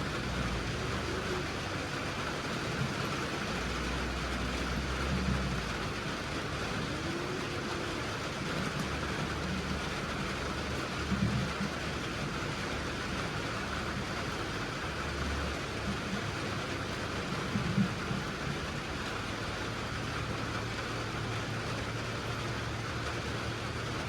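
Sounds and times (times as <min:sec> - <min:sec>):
steady rain: 0:00.0 - 0:24.0
vehicle engine hum: 0:00.0 - 0:24.0.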